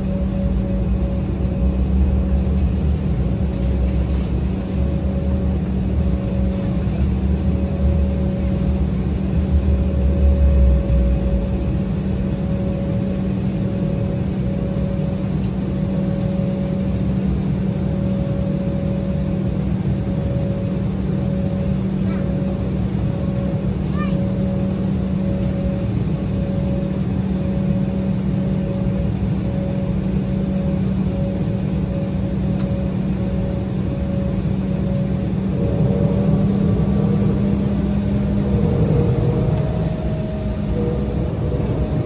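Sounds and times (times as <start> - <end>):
jet engine hum and whine: 0.0 - 42.0
low rumble: 0.0 - 42.0.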